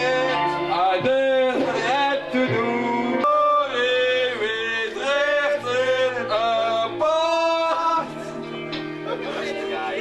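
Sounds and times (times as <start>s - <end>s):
instrumental backing music: 0.0s - 10.0s
men singing: 0.0s - 10.0s.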